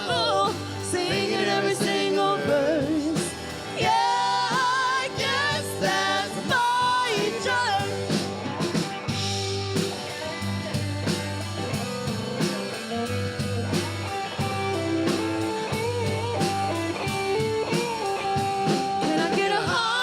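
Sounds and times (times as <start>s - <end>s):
bass guitar: 0.0s - 20.0s
drum kit: 0.0s - 20.0s
electric guitar lead: 0.0s - 20.0s.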